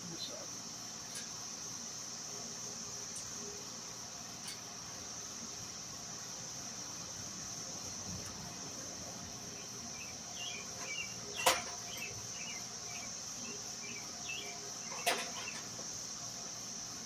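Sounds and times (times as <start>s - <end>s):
faint insect chirps: 0.0s - 17.0s
high-pitched insect drone: 0.0s - 17.0s.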